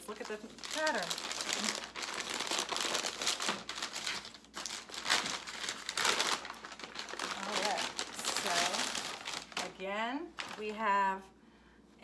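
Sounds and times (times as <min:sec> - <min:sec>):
paper bag crinkling and rustling: 0:00.0 - 0:10.8.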